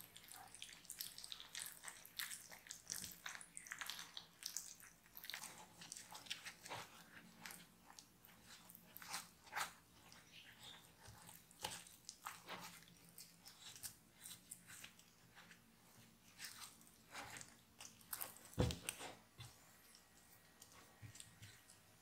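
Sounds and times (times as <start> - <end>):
spatula stirring sticky dough: 0.0 - 22.0.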